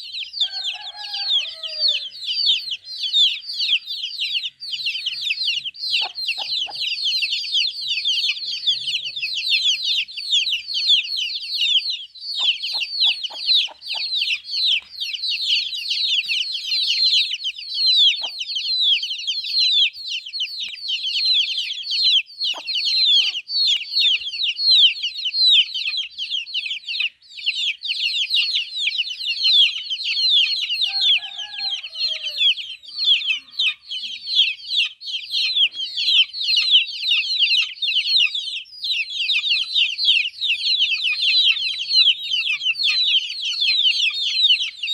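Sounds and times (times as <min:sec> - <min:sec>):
chicks peeping: 0:00.0 - 0:44.9.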